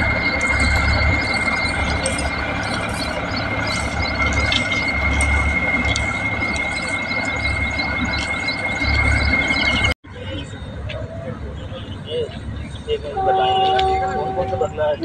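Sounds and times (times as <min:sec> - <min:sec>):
engine rumbling: 0:00.0 - 0:15.0
high-pitched whine: 0:00.0 - 0:15.0.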